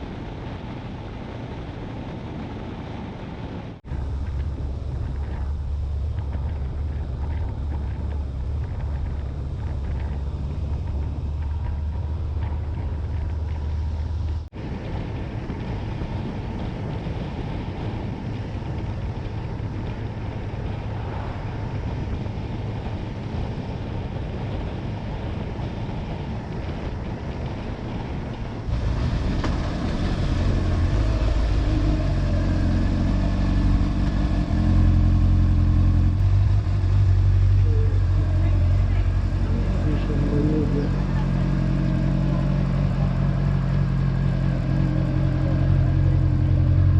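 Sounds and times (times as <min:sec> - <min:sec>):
wind and road noise: 0:00.0 - 0:46.9
motorcycle engine running: 0:03.8 - 0:46.9.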